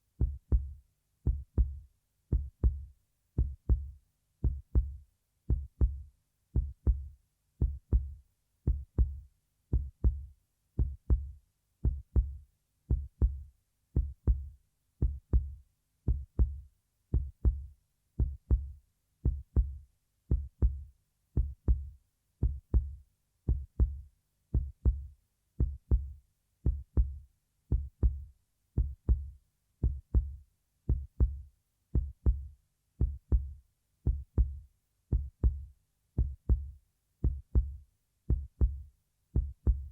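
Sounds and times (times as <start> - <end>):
heartbeat double thumps: 0.2 - 31.4, 32.0 - 39.9.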